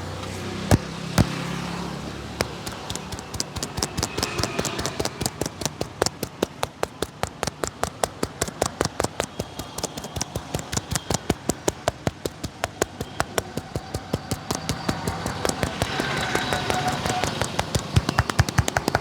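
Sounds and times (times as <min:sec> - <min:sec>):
hands patting on a head: 0:00.7 - 0:01.5, 0:02.4 - 0:19.0.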